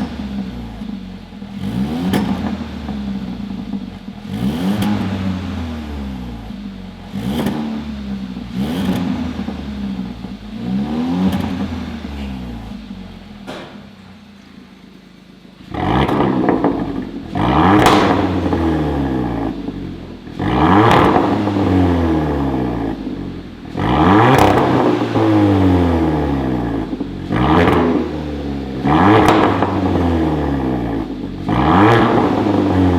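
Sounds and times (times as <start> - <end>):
car engine idling: 0.0 - 32.9
car engine revving: 0.0 - 32.9.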